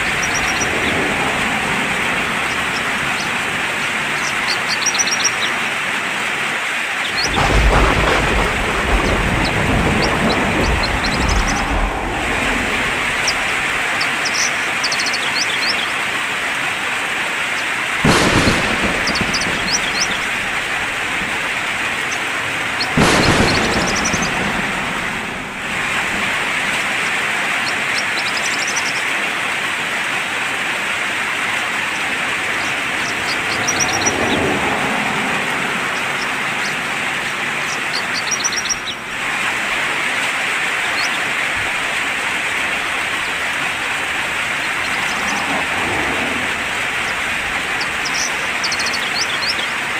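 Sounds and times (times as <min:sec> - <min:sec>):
loud cracks: 0:00.0 - 0:05.6, 0:07.2 - 0:14.0, 0:18.0 - 0:28.6, 0:31.6 - 0:49.9
birds chirping: 0:00.0 - 0:06.1, 0:07.0 - 0:29.4, 0:31.5 - 0:39.5, 0:40.7 - 0:49.9
rain on a tiled roof: 0:00.0 - 0:49.9.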